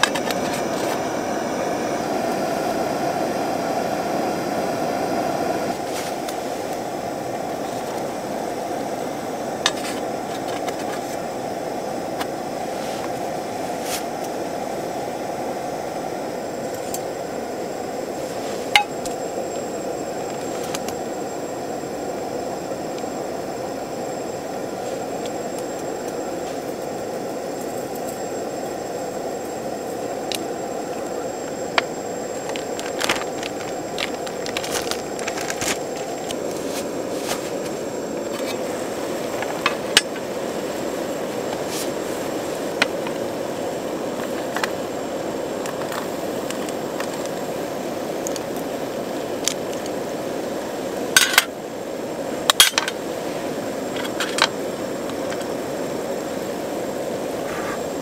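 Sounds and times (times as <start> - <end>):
gas stove flame rushing: 0.0 - 58.0
water boiling: 0.0 - 58.0.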